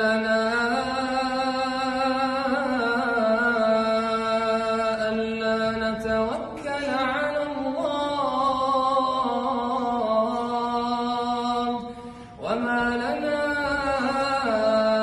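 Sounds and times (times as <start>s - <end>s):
man singing melismatic notes: 0.0s - 15.0s.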